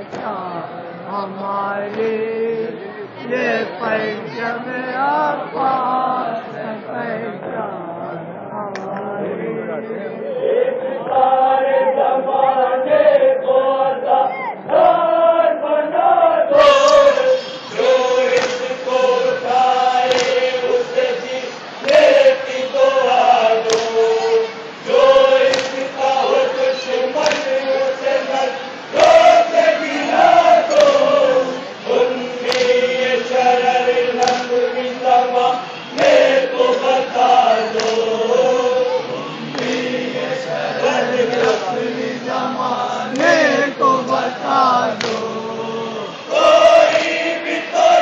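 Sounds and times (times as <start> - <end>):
men chanting: 0.0 - 48.0.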